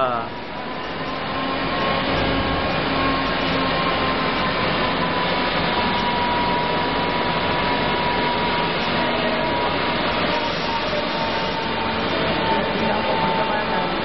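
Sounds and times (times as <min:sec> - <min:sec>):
faint steady whine: 0:00.0 - 0:14.0
machine mechanical noise: 0:00.0 - 0:14.0.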